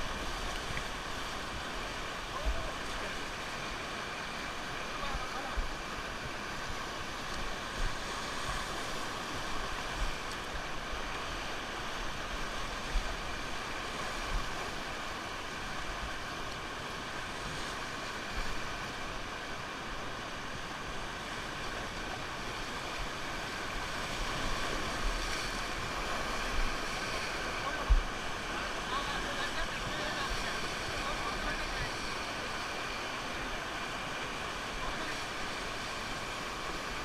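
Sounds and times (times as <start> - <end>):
rushing river water: 0.0 - 37.0.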